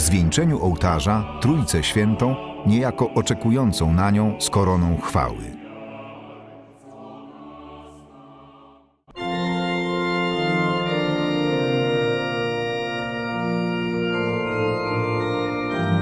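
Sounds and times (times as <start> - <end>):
loud organ music: 0.0 - 7.8, 9.1 - 16.0.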